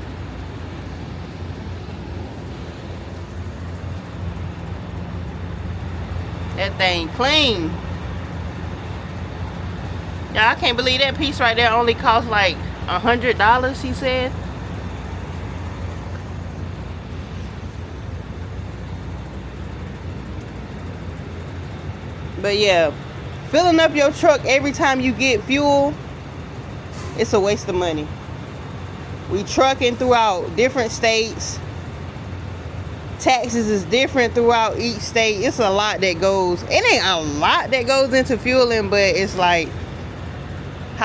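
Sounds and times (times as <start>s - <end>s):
road noise: 0.0s - 41.0s
truck diesel engine rumbling: 0.0s - 41.0s.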